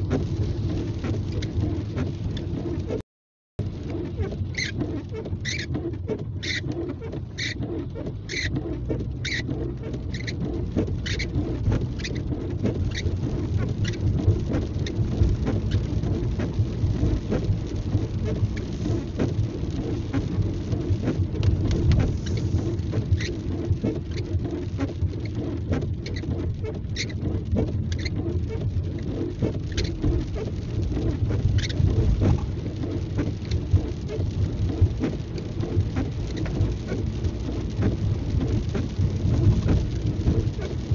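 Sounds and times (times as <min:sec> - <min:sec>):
rain pattering on car: 0:00.0 - 0:03.0, 0:03.6 - 0:40.9
tyres and engine rumble: 0:00.0 - 0:03.0, 0:03.6 - 0:40.9
windshield wiper ticks: 0:00.0 - 0:03.0, 0:03.6 - 0:40.9.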